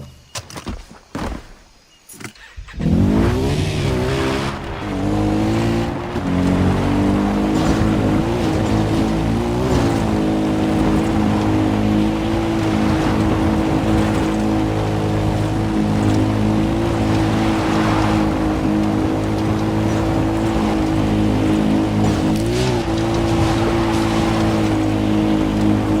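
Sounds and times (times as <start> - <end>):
car engine revving: 2.5 - 26.0.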